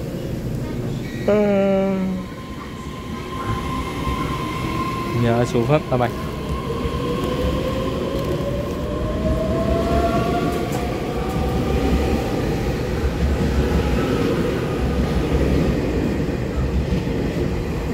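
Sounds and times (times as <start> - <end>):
train rumble: 0.0 - 17.9.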